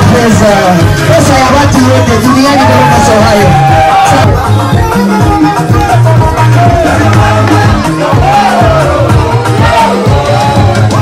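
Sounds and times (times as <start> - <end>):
loud dance music: 0.0 - 11.0.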